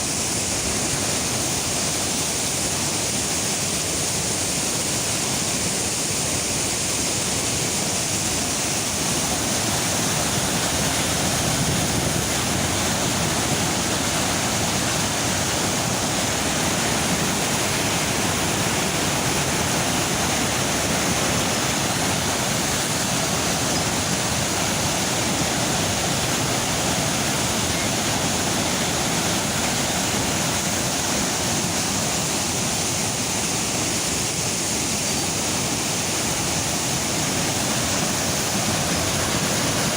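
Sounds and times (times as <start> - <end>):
river rapids roaring: 0.0 - 39.9.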